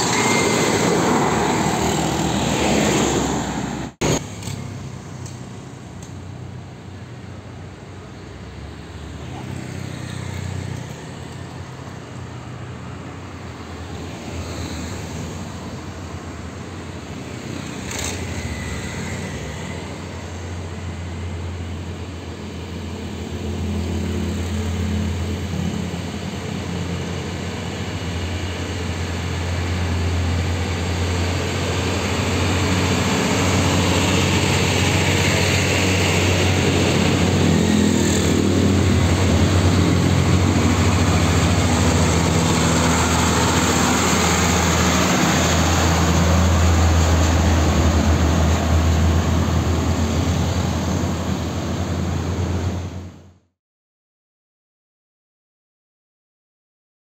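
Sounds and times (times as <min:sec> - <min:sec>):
motorcycles passing: 0:00.0 - 0:53.1
diesel truck engines droning: 0:00.0 - 0:53.3.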